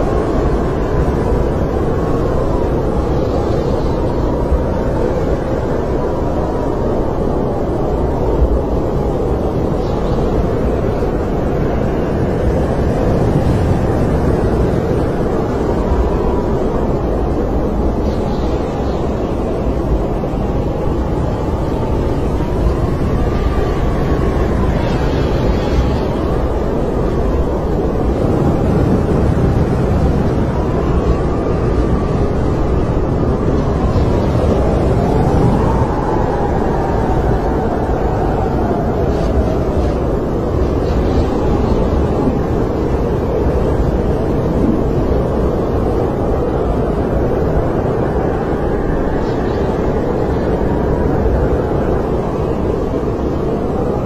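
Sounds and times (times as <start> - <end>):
snowstorm wind whistling: 0.0 - 54.0.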